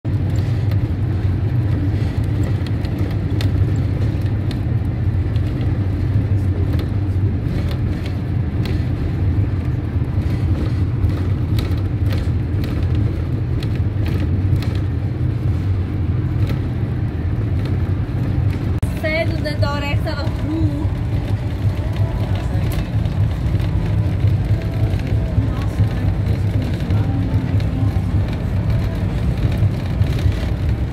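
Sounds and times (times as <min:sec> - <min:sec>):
car road and engine rumble: 0:00.0 - 0:30.9.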